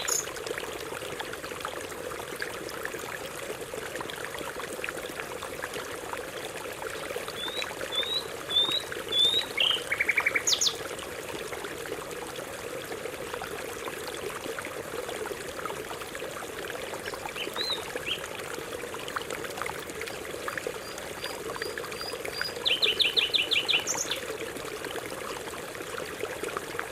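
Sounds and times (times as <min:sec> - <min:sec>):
stream water running: 0:00.0 - 0:26.9.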